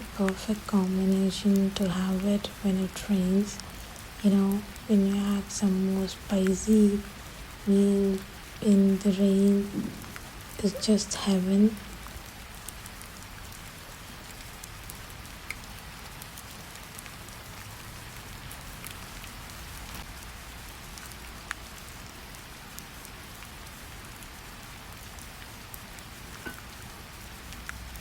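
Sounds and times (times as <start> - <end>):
raindrops ticking close by: 0.0 - 28.0
steady rain falling: 0.0 - 28.0.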